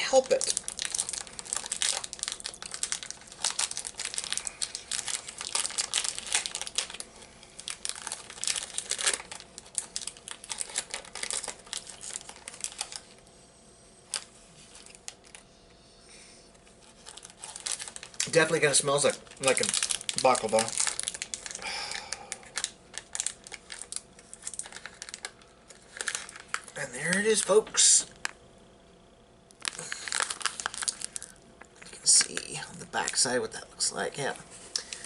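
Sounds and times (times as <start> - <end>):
snack wrapper crinkling: 0.0 - 13.2, 14.1 - 15.4, 16.5 - 28.4, 29.5 - 33.4, 34.7 - 35.0.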